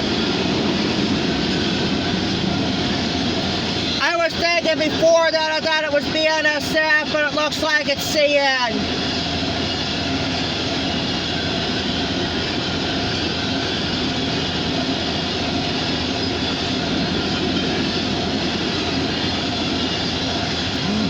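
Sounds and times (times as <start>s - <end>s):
train wheels rumbling on rails: 0.0s - 7.9s, 8.6s - 21.0s.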